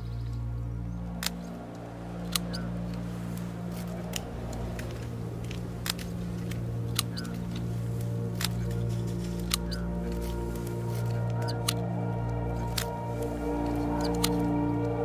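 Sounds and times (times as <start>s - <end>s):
steady low hum: 0.0s - 15.0s
secateurs snipping: 1.1s - 15.0s.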